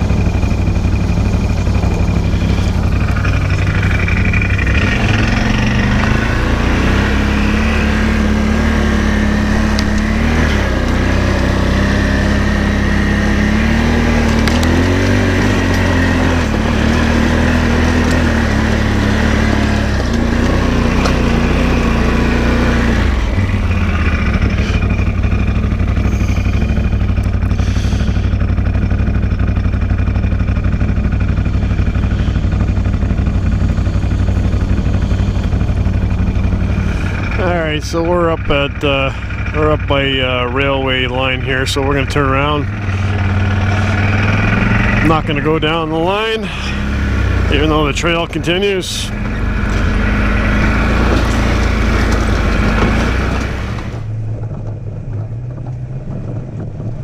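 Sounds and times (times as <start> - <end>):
atv engine running and idling: 0.0 - 57.0.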